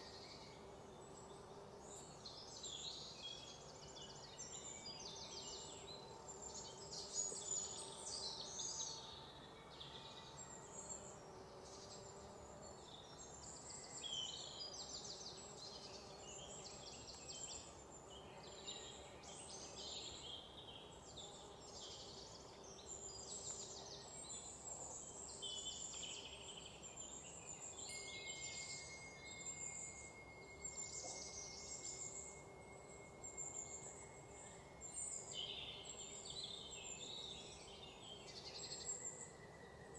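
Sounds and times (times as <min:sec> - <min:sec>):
faint steady background hiss: 0:00.0 - 0:39.9
small birds chirping and twittering: 0:00.0 - 0:39.9.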